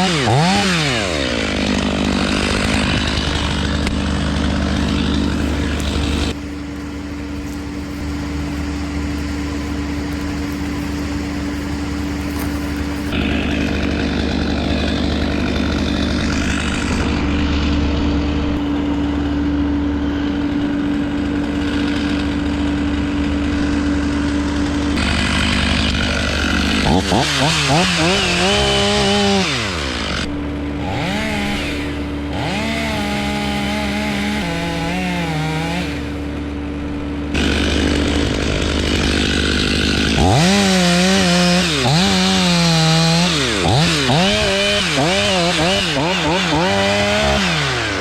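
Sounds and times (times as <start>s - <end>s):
small petrol engine running: 0.0s - 48.0s.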